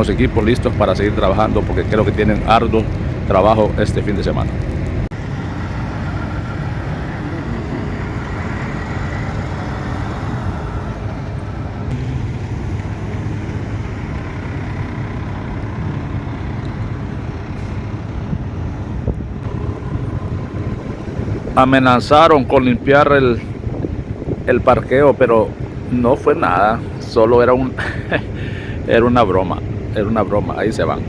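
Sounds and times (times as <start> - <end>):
diesel truck engines running: 0.0 - 31.0.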